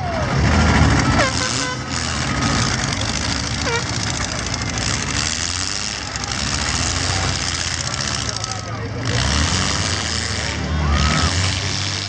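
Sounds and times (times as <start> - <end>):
car engines running together: 0.0 - 12.0.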